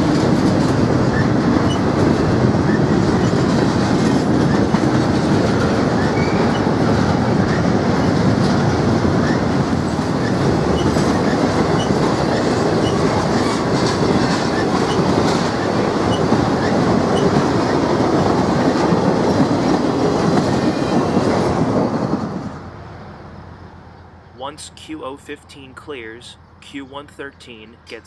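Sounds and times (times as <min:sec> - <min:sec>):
rail clicks: 0:00.0 - 0:22.7
train wheels rumbling on rails: 0:00.0 - 0:23.8.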